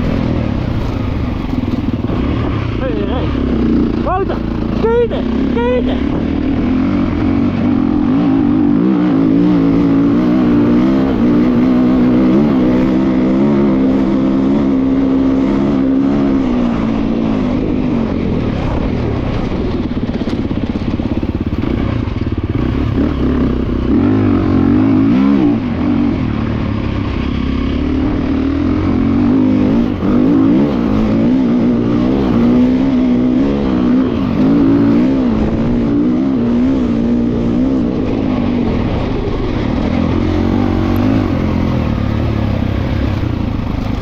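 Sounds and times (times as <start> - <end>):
motorbike engine revving: 0.0 - 44.0.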